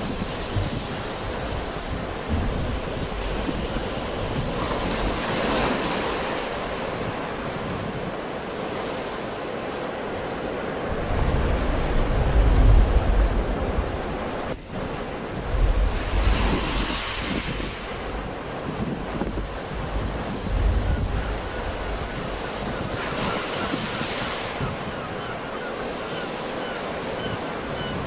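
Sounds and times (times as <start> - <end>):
wind buffeting microphone: 0.0 - 9.1, 10.0 - 26.2
sea waves breaking on shore: 0.0 - 28.0.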